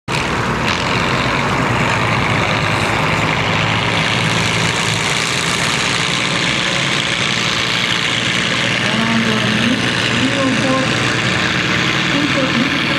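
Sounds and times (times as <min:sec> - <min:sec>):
tractor diesel engine under heavy load: 0:00.0 - 0:12.9.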